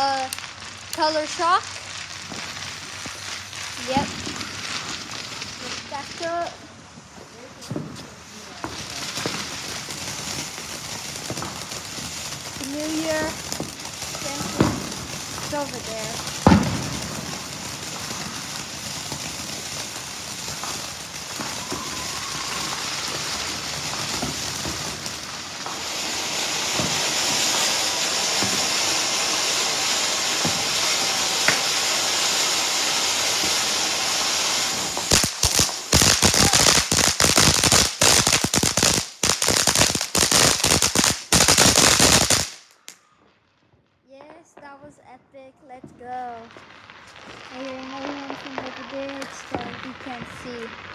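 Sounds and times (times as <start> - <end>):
firework fountain hissing: 0.0 - 43.0, 46.1 - 50.9
firework sharp cracks: 0.0 - 44.7, 46.0 - 50.9.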